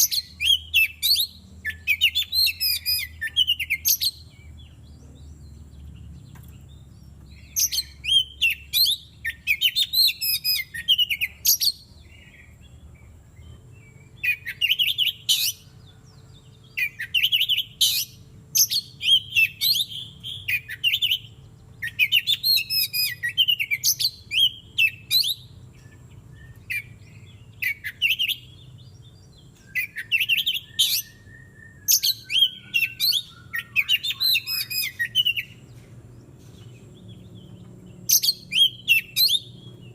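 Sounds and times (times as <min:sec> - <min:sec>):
bird singing rapid phrases: 0:00.0 - 0:39.9.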